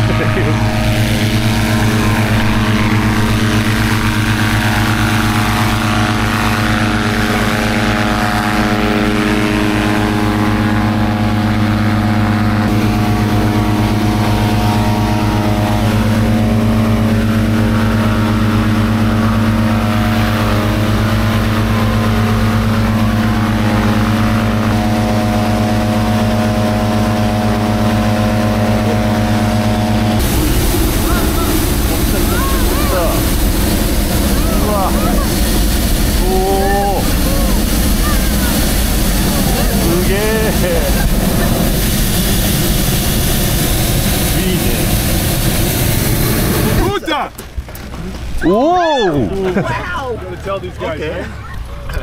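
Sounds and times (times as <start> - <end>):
petrol engine inflator fan: 0.0 - 52.0.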